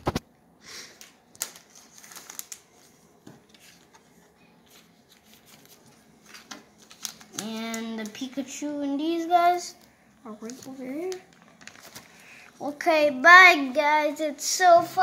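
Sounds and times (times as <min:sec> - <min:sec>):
plastic sheet rustling and crinkling: 0:01.0 - 0:13.1.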